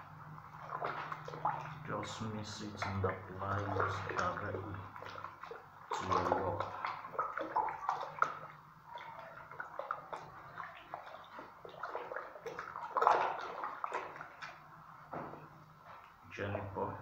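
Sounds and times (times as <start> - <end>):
putty mixed in plastic bucket: 0.0 - 16.2.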